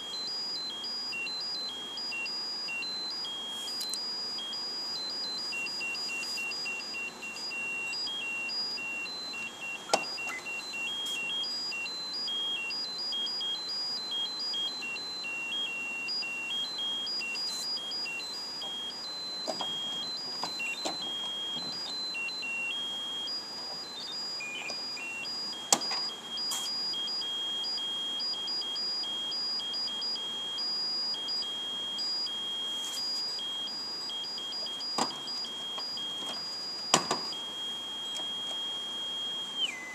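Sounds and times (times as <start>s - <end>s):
high-pitched beeping melody: 0.0s - 39.9s.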